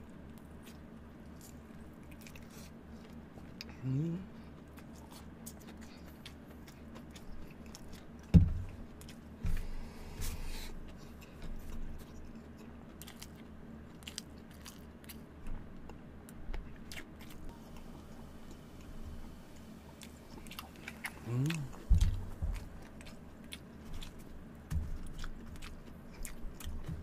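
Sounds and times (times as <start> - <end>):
chewing fried chicken: 0.0 - 27.0.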